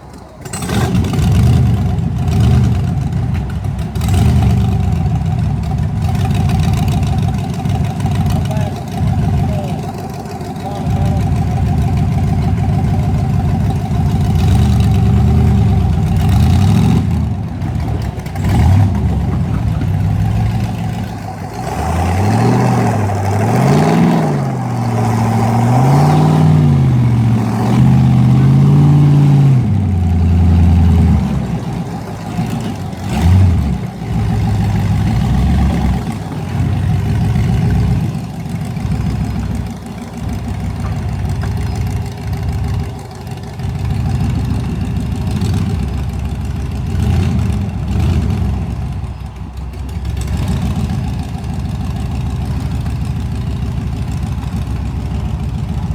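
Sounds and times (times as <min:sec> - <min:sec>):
engine idling and revving: 0:00.0 - 0:55.9.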